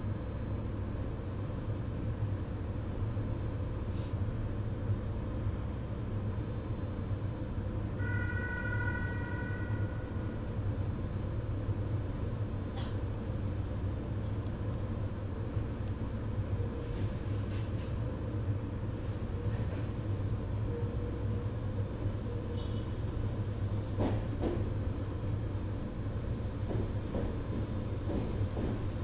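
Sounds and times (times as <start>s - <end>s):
electric train hum: 0.0s - 29.0s.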